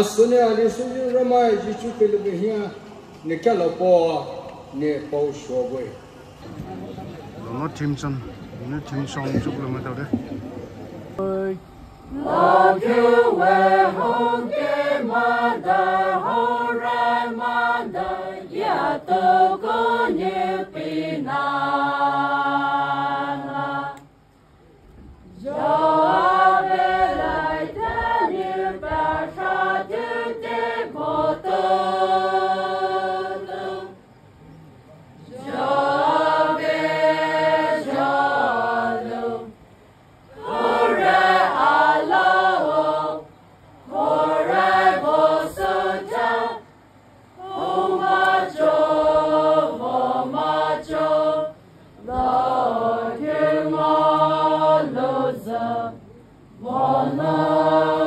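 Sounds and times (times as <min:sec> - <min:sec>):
voices chanting: 0:00.0 - 0:24.2, 0:25.3 - 0:58.0.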